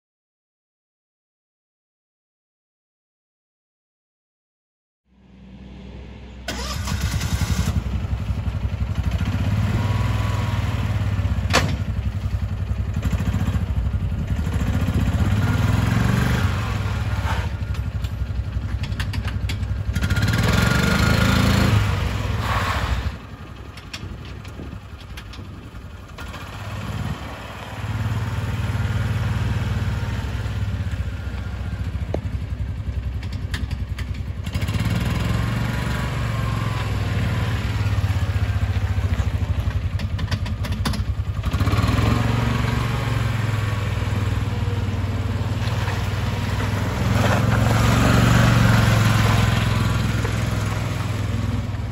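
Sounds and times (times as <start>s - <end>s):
utility vehicle engine revving: 5.2s - 51.9s.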